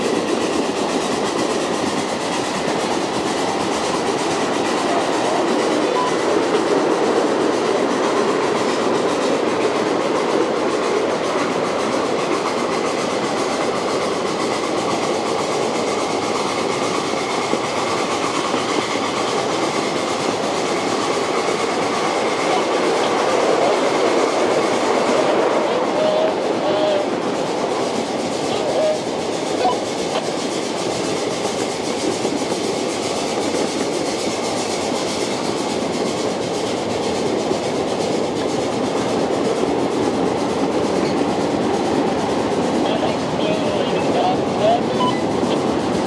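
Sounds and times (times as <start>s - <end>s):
train wheels clattering on rails: 0.0s - 46.0s.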